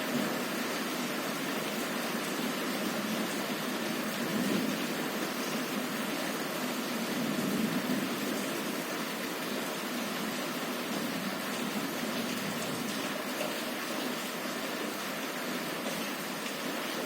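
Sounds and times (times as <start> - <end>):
heavy rain on a window: 0.0 - 17.0.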